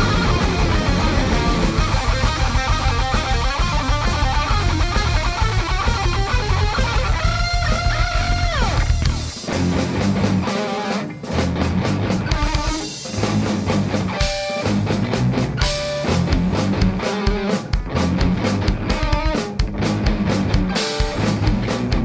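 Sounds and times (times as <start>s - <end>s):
drum-kit beat: 0.0s - 22.0s
guitar chords: 0.0s - 22.0s.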